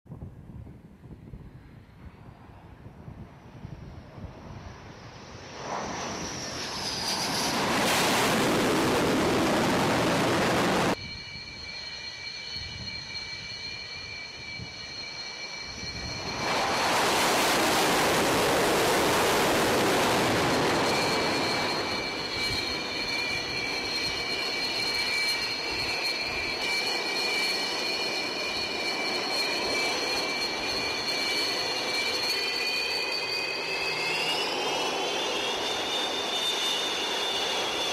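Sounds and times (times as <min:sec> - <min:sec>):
taxiing jet engine whine: 0:00.1 - 0:37.9
jet roar: 0:00.9 - 0:37.9
high turbine whine: 0:01.1 - 0:37.9.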